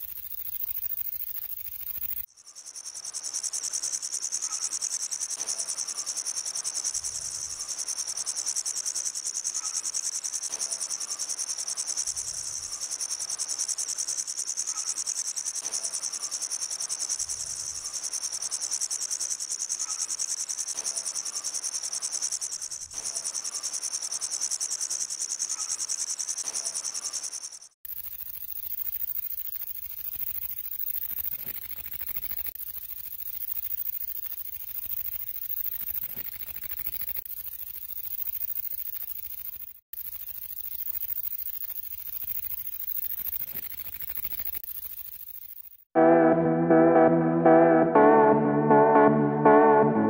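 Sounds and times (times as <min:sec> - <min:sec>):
grasshopper stridulating: 0:00.0 - 0:45.9.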